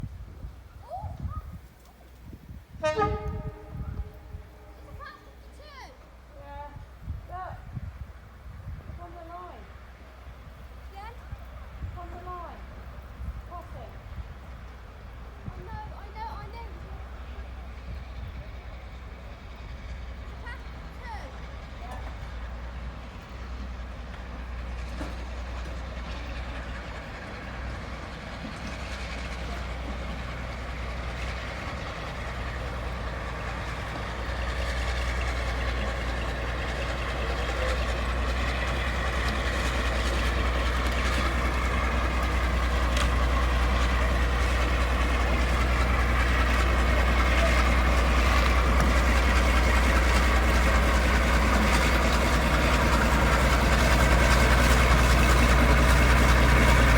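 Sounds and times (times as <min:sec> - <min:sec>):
locomotive engine hum: 0:00.0 - 0:56.9.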